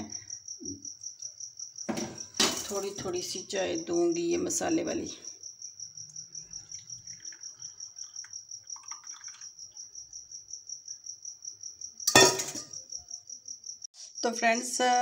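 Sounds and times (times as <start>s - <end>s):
insect chirping trill: 0.0s - 15.0s.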